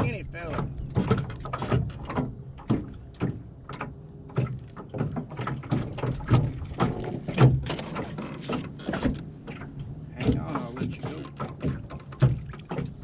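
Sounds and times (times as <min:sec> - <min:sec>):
fish thumping against boat: 0:00.0 - 0:13.0.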